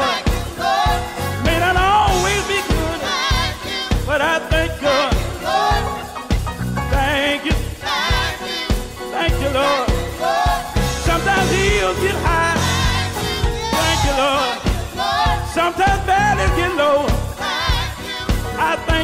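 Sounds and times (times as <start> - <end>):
bass: 0.0 - 19.0
person singing with vibrato: 0.0 - 19.0
steady drum beat: 0.0 - 19.0.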